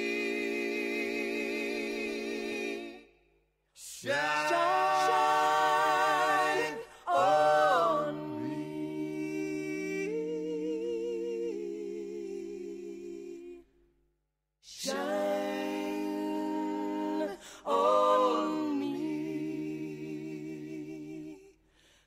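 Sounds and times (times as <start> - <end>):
choir singing in close harmony: 0.0 - 13.6, 14.7 - 21.5.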